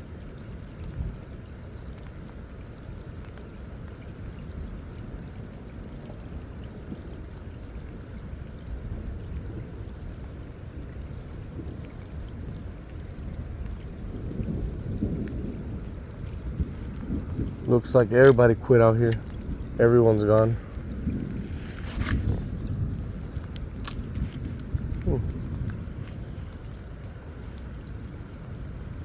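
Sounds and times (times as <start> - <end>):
light rain falling: 0.0 - 29.0
wind buffeting microphone: 0.0 - 29.0.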